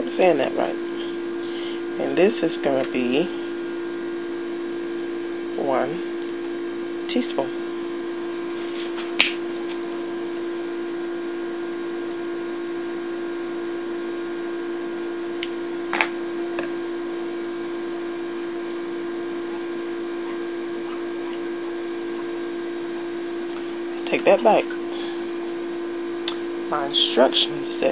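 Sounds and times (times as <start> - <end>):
steady hum: 0.0 - 27.9.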